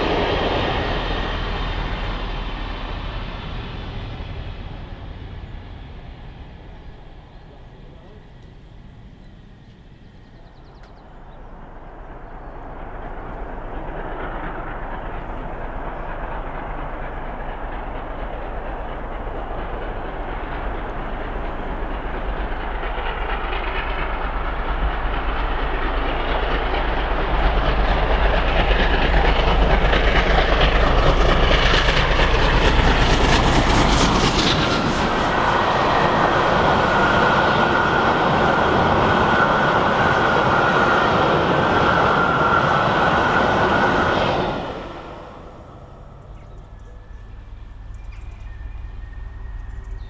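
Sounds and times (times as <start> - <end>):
steam locomotive exhaust: 0.0 - 50.0
train running noise: 0.0 - 50.0.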